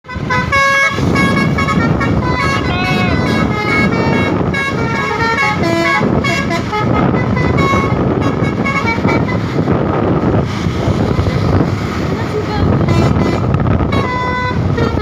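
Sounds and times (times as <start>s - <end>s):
musical truck horn: 0.0s - 10.3s, 12.7s - 15.0s
truck driving rumble: 0.0s - 15.0s.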